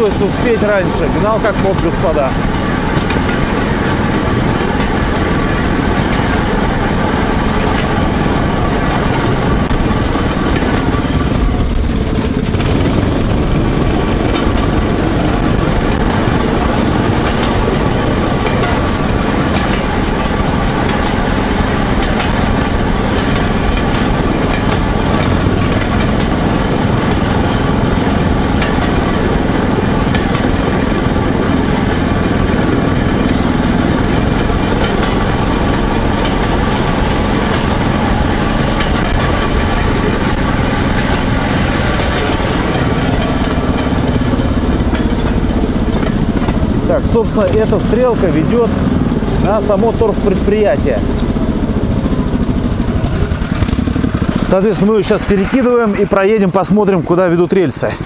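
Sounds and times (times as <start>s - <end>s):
rail vehicle engine running: 0.0s - 58.0s.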